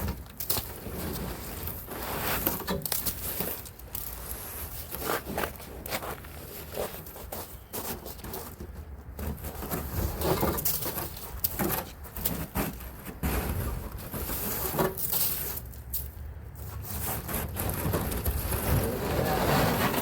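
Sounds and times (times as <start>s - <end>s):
crunching and scraping in slushy snow: 0.0s - 20.0s.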